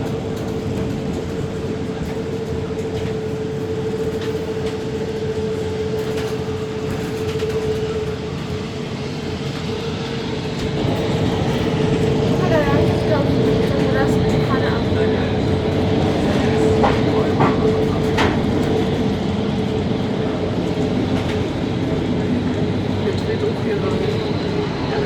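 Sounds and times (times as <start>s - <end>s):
bus rumble from inside: 0.0s - 25.0s
constant high whine: 0.0s - 25.0s.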